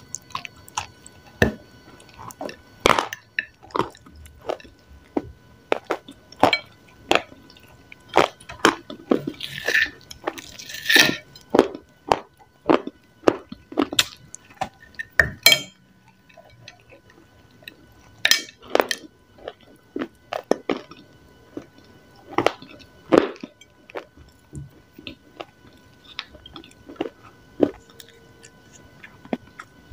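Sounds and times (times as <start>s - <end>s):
biting and chewing crunches: 0.1s - 15.2s, 17.8s - 29.9s.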